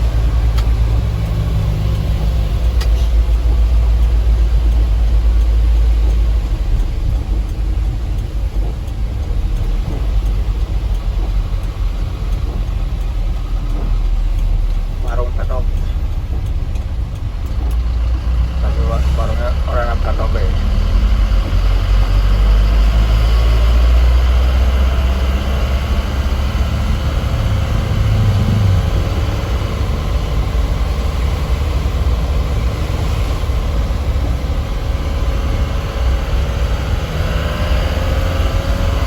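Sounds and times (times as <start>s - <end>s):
road noise: 0.0s - 39.0s
truck engine drone: 0.0s - 39.0s.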